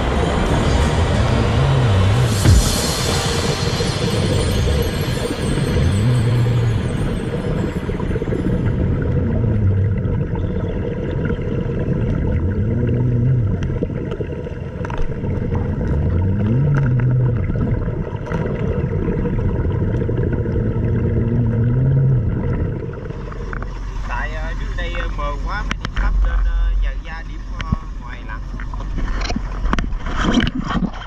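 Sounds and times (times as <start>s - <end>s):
boat engine drone underwater: 0.0s - 31.0s.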